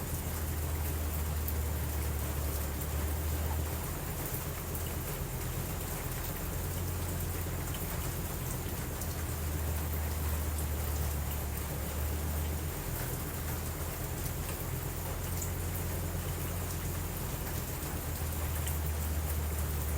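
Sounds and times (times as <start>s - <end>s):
low continuous rumble: 0.0s - 19.9s
rain hiss with drop ticks: 0.0s - 19.9s.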